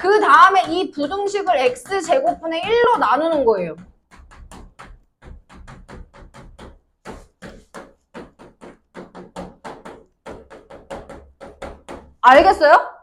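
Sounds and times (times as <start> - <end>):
chalk tapping and scratching on board: 0.0 - 12.7.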